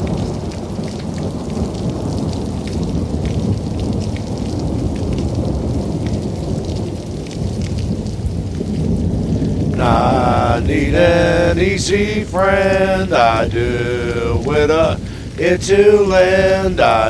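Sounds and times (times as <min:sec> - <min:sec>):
low rumble of thunder: 0:00.0 - 0:16.6
steady rain falling: 0:00.0 - 0:17.0.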